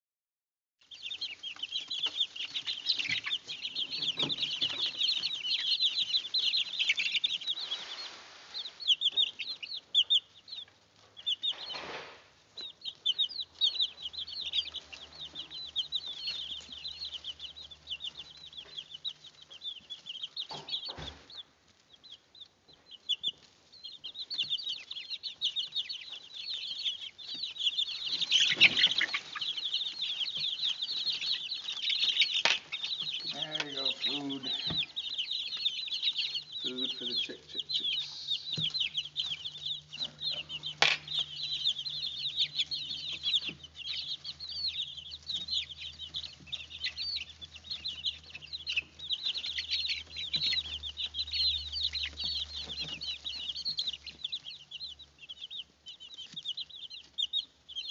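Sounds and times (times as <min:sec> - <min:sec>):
chicks peeping: 0:00.8 - 0:57.9.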